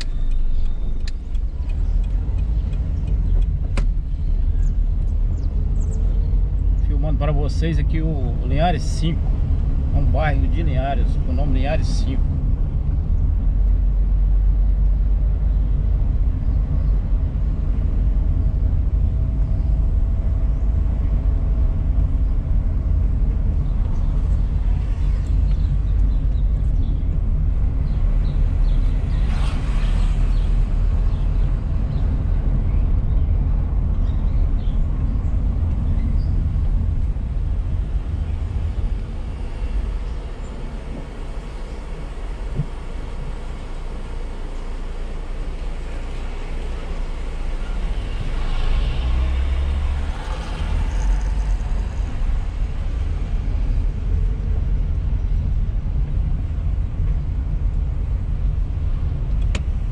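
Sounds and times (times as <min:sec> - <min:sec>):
car interior engine and tyre rumble: 0:00.0 - 0:59.9.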